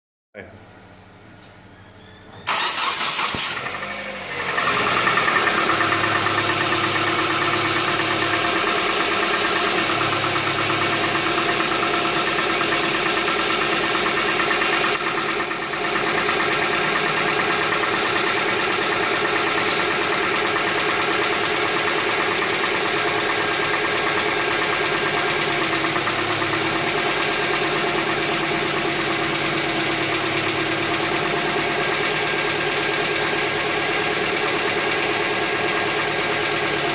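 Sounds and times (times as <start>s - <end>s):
car engine idling: 2.5s - 36.9s
rapid engine ticking: 4.4s - 36.9s.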